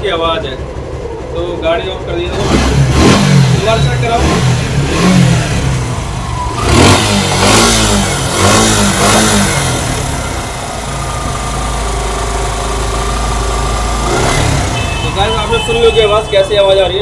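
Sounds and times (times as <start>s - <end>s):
engine tapping: 0.0s - 17.0s
motorcycle engine revving and idling: 0.0s - 17.0s.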